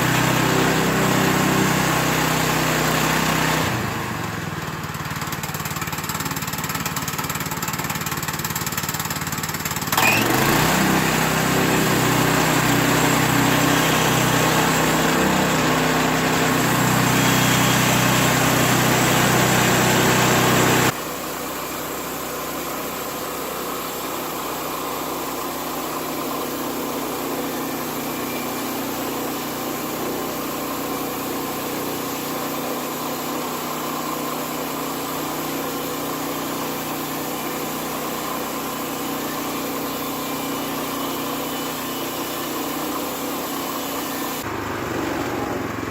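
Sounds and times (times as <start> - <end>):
saw cutting log: 0.0 - 45.9
sawmill gas engine running: 0.0 - 45.9.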